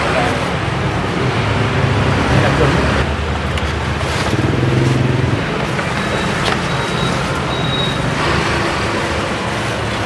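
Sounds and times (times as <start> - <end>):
steady traffic noise: 0.0 - 10.0
vehicle engine hum: 0.0 - 10.0.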